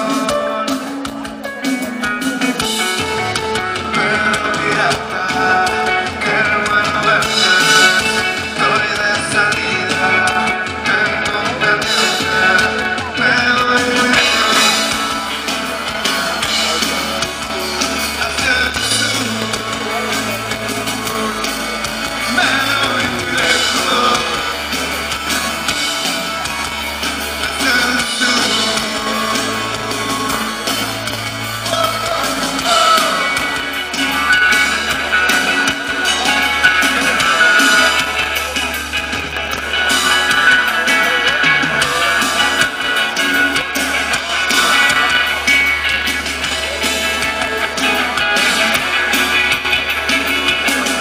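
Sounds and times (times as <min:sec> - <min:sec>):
live rock band playing: 0:00.0 - 0:51.0.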